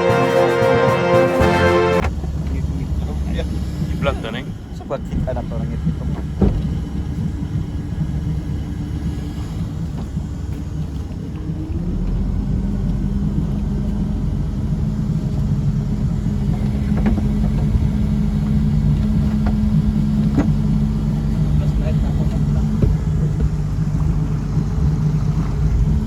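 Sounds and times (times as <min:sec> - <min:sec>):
engine rumbling: 0:00.0 - 0:26.0.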